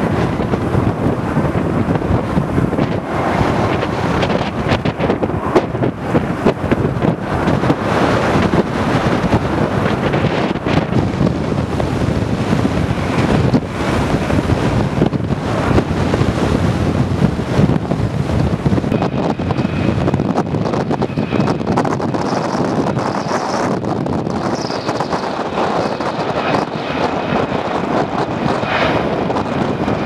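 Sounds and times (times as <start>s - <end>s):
high engine whine: 0.0s - 30.0s
jet airliner engines: 0.0s - 30.0s
wind buffeting microphone: 0.0s - 30.0s.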